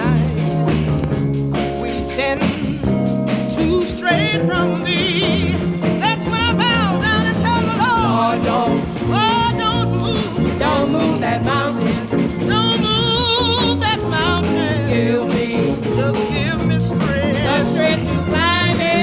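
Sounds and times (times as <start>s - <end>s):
gospel funk band playing: 0.0s - 19.0s.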